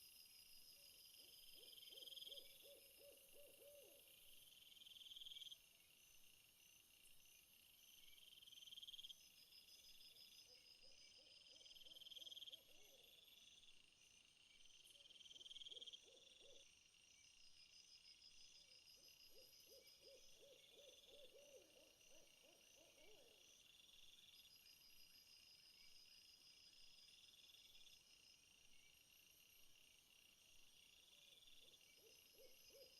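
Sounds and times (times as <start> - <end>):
insects chirping in high trills: 0.0 - 32.9.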